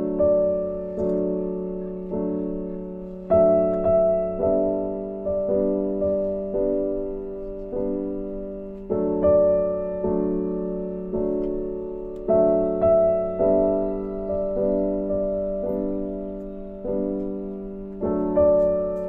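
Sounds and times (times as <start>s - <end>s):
slow soft piano chords: 0.0s - 19.0s.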